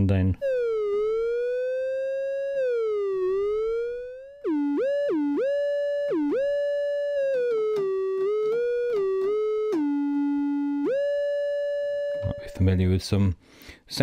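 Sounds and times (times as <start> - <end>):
buzzy synthesizer gliding notes: 0.4 - 13.0.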